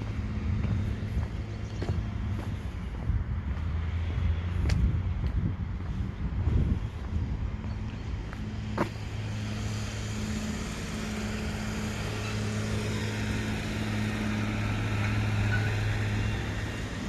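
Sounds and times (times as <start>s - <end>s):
road noise: 0.0s - 17.0s
vehicle engine humming: 0.0s - 17.0s.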